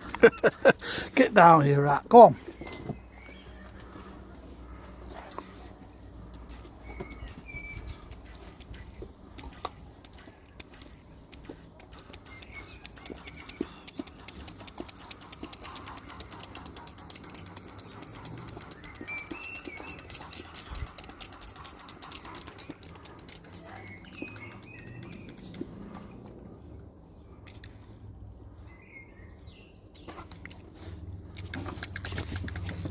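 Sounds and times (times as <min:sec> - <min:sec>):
birds chirping: 0:00.0 - 0:32.9
dog lapping water: 0:02.4 - 0:28.2, 0:30.0 - 0:32.9.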